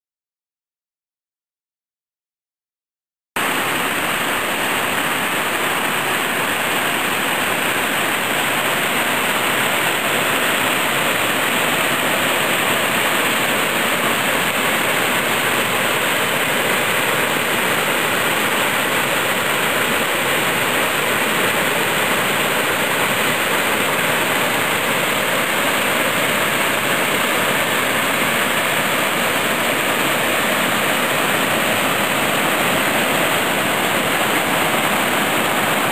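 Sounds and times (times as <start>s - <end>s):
waterfall rushing into a pool: 3.4s - 35.9s.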